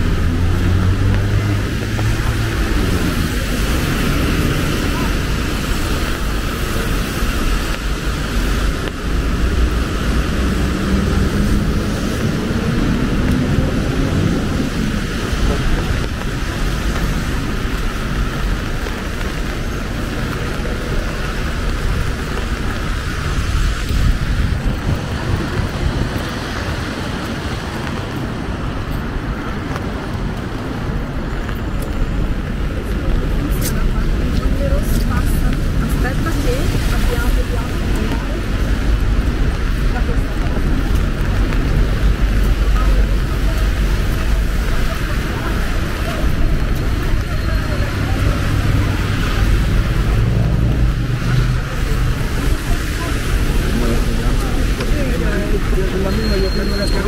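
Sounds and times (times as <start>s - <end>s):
rain hiss on wet road: 0.0s - 57.0s
traffic rumble: 0.0s - 57.0s.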